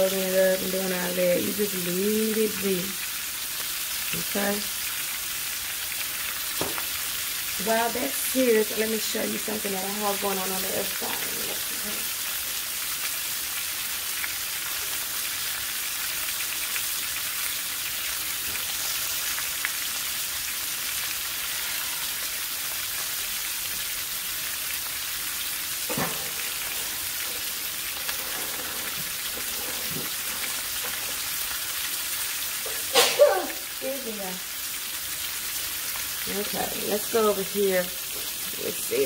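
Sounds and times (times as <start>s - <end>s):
meat sizzling in a skillet: 0.0s - 39.0s.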